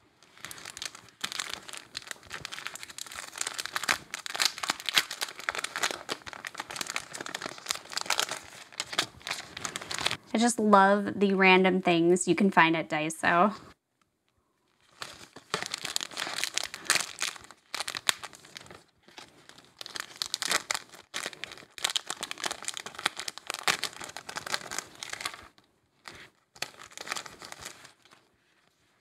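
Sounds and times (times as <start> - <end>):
plastic bag crinkling: 0.0 - 10.3, 14.7 - 28.3.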